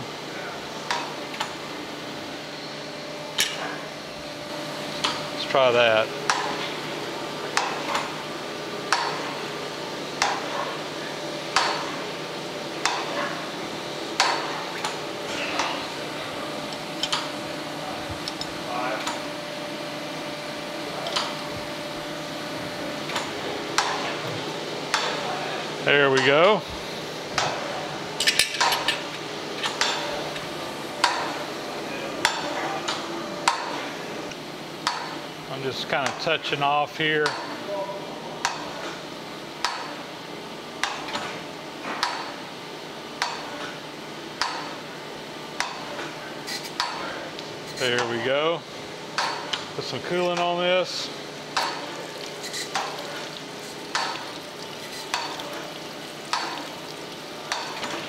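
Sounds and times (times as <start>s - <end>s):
grinding wheel hum and hiss: 0.0s - 58.0s.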